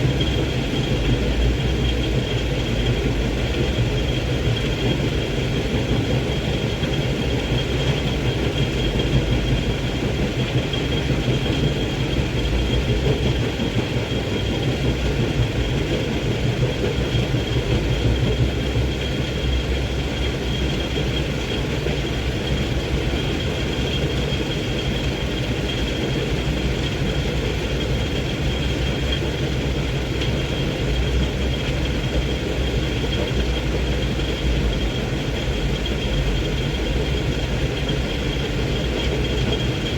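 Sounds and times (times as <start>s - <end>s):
truck diesel engine rumbling: 0.0s - 39.9s.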